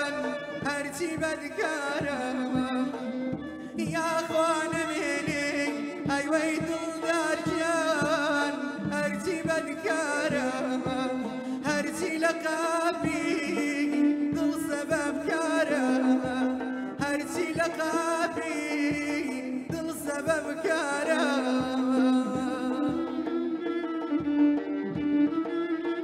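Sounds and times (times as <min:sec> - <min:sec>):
bowed strings melody: 0:00.0 - 0:26.0
hand drum beat: 0:00.0 - 0:26.0
person singing: 0:00.0 - 0:26.0.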